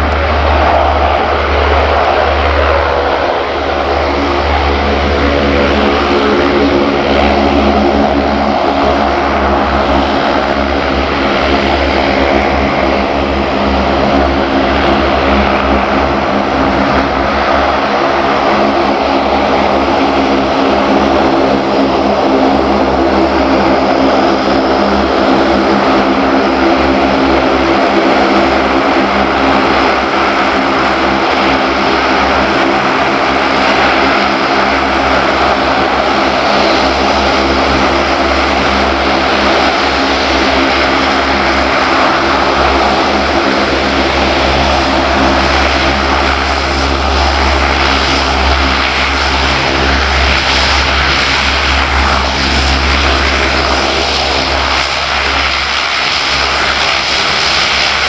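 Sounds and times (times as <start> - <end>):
aircraft engine noise: 0.0 - 58.0
turboprop propeller drone: 0.0 - 58.0.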